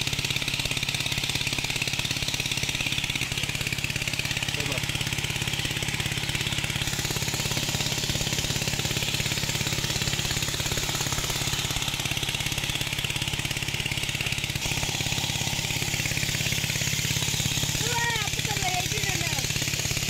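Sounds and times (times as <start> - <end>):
water pump engine running: 0.0 - 20.0.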